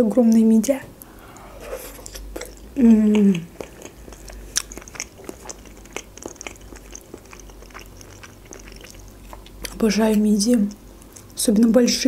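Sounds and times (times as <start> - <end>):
wet chewing mouth clicks: 0.1 - 11.4.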